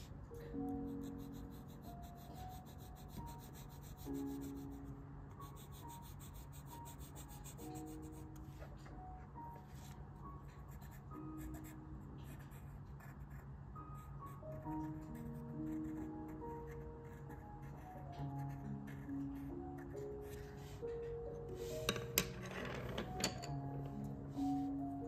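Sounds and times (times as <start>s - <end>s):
soft background melody: 0.0s - 25.0s
colored pencil scratching on paper: 0.9s - 8.8s, 9.6s - 22.1s.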